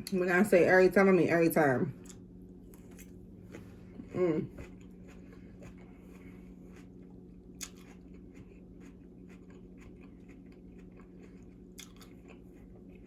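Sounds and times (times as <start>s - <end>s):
steady low hum: 0.0s - 13.0s
chewing crunchy vegetables: 2.0s - 13.0s.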